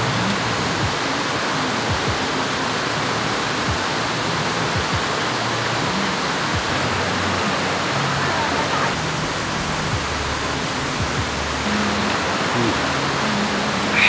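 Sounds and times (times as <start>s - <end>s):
water rushing over rapids: 0.0s - 14.0s.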